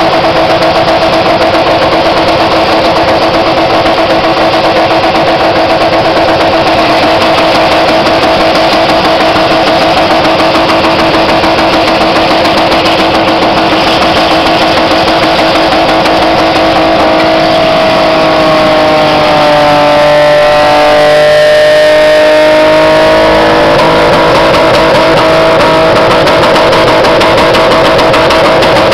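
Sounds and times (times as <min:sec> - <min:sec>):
car engine revving high: 0:00.0 - 0:28.9.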